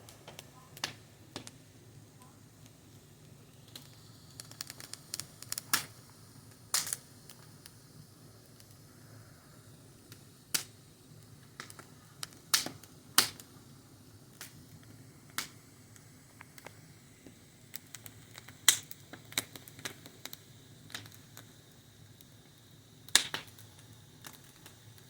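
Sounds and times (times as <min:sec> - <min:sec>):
faint low hiss: 0:00.0 - 0:25.0
wood fire crackling: 0:00.0 - 0:25.0.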